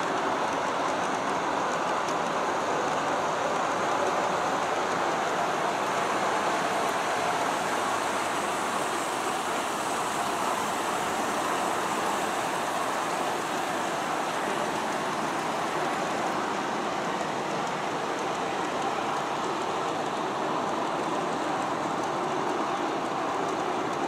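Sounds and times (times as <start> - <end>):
model train wheels on rails: 0.0 - 24.0.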